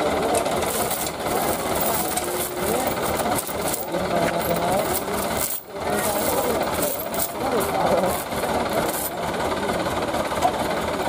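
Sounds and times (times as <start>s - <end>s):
engine idling: 0.0s - 11.0s
people talking: 0.0s - 11.0s.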